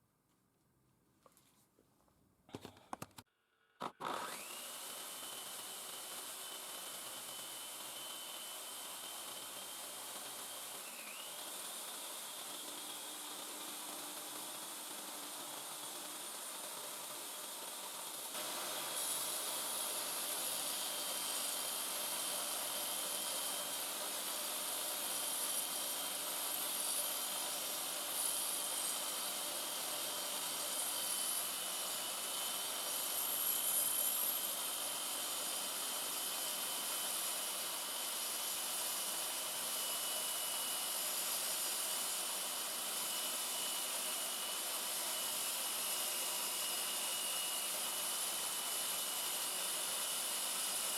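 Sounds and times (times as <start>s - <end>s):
belt grinder whining: 3.8s - 50.9s.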